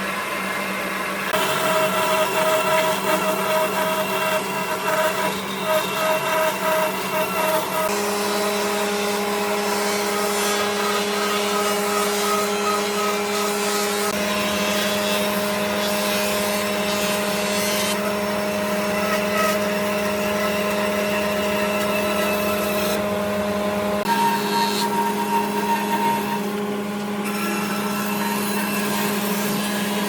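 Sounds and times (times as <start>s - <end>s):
power tool motor humming: 1.3s - 30.0s.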